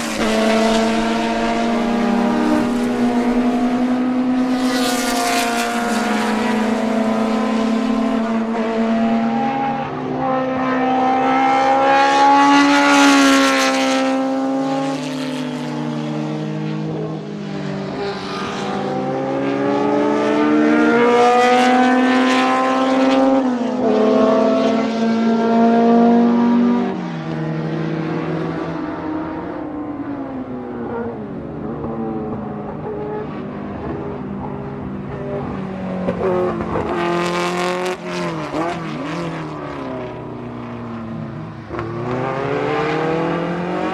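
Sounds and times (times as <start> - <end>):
racing engine at high revs: 0.0 - 43.9.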